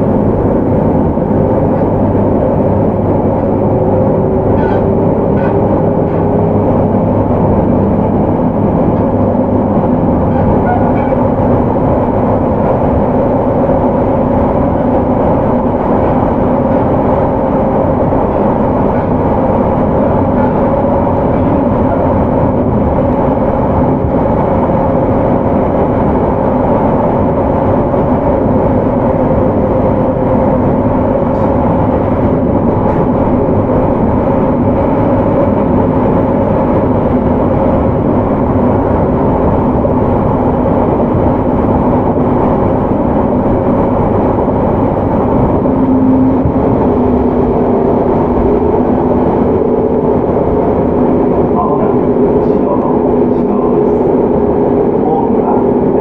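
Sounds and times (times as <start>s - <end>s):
low motor hum: 0.0s - 56.0s
train wheels rumbling on rail: 0.0s - 56.0s.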